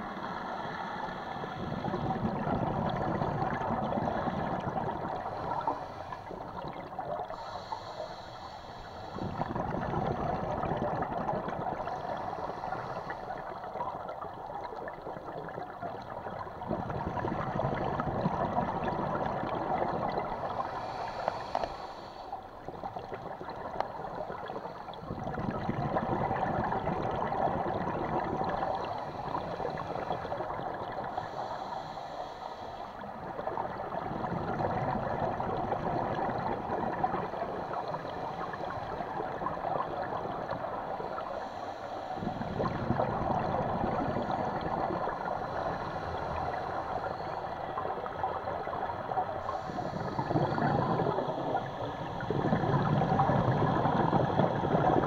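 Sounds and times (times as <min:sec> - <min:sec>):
underwater bubbling and gurgling: 0:00.0 - 0:55.0.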